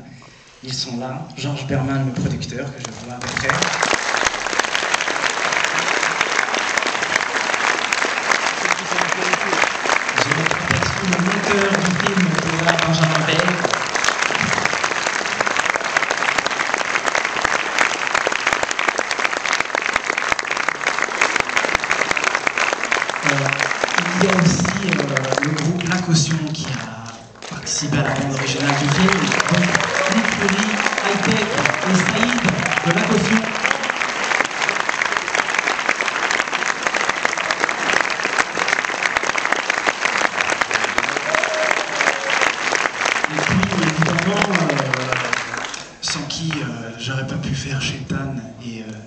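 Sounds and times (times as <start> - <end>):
audience applauding: 2.8 - 46.8.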